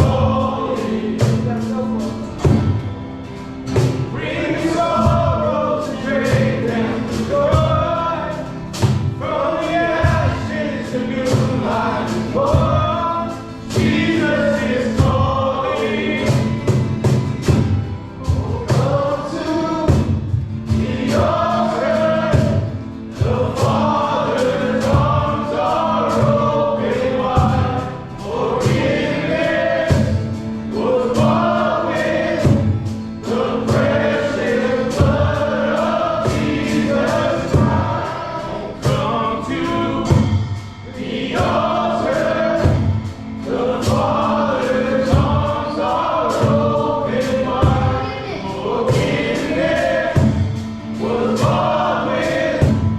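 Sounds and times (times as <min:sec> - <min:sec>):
band playing: 0:00.0 - 0:52.9
group of voices singing: 0:00.0 - 0:52.9
steady drum beat: 0:00.0 - 0:52.9.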